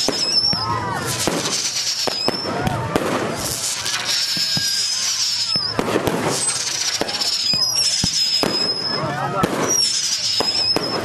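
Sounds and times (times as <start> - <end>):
fireworks bangs and crackles: 0.0 - 11.0
fireworks whistles: 0.0 - 11.0.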